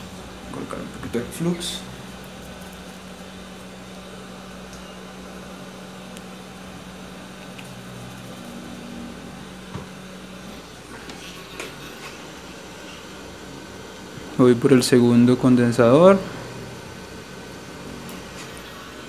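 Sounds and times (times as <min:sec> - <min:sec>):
hot-air station humming airflow: 0:00.0 - 0:19.0.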